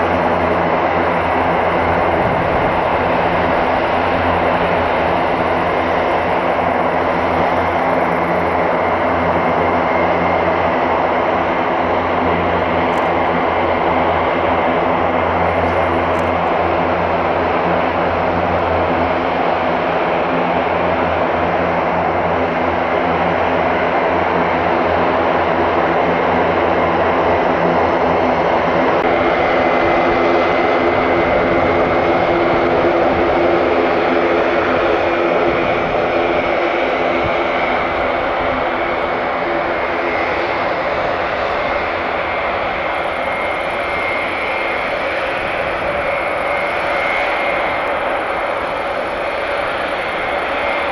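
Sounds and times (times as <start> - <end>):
high engine whine: 0.0 - 50.9
turboprop engines droning: 0.0 - 50.9.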